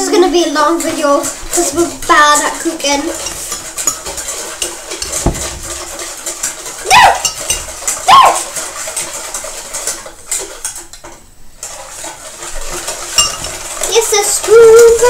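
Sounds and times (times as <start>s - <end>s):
metal utensil scraping mixing bowl: 0.0s - 15.0s.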